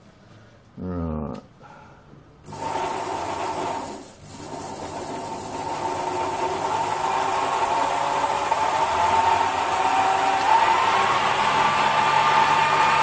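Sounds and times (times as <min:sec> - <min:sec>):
lathe motor whining: 0:02.5 - 0:13.0.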